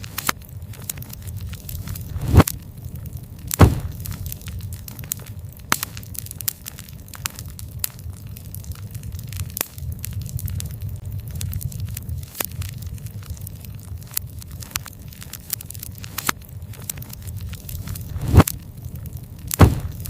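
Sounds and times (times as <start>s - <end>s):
campfire crackling and popping: 0.0s - 20.0s
low rumble of burning: 0.0s - 20.0s.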